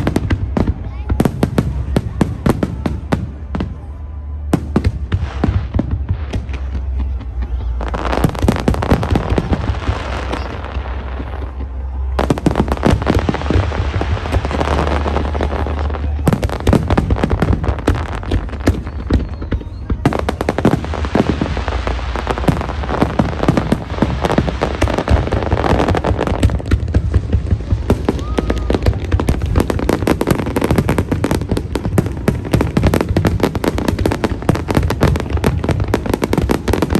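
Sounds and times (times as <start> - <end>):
fireworks bangs and crackling: 0.0 - 36.9.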